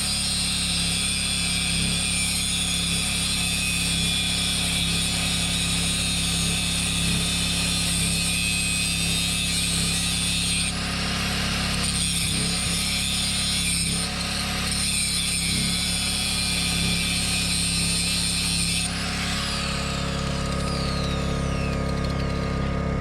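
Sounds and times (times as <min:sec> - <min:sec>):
angle grinder cutting steel: 0:00.0 - 0:23.0.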